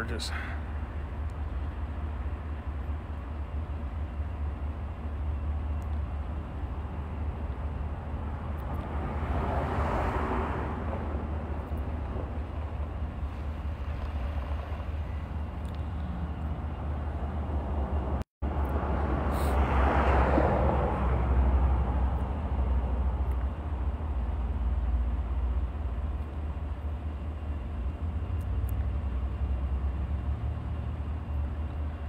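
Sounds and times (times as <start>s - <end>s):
low traffic rumble: 0.0s - 32.0s
vehicles passing: 0.0s - 32.0s.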